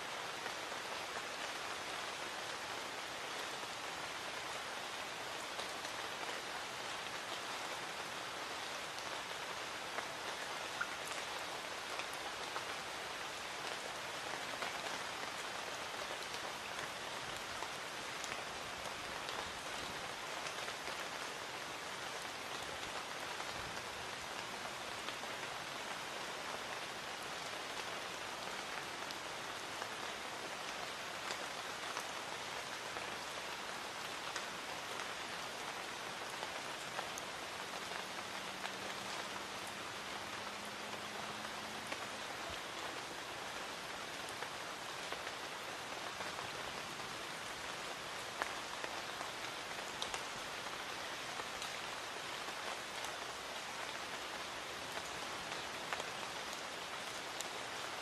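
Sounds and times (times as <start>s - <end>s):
light rain falling: 0.0s - 58.0s
raindrops ticking on surfaces: 0.0s - 58.0s.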